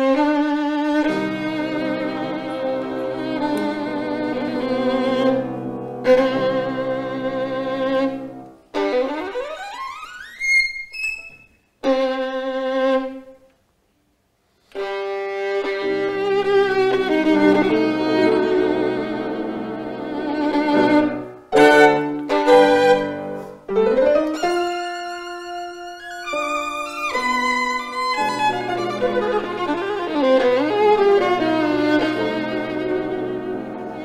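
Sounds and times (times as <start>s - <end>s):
bowed strings music with violin: 0.0s - 13.3s, 14.7s - 34.0s.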